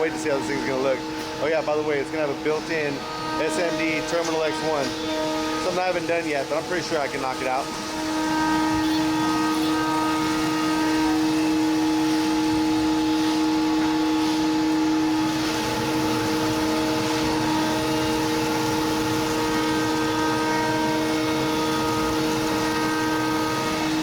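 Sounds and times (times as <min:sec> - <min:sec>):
router spindle whining: 0:00.0 - 0:24.0.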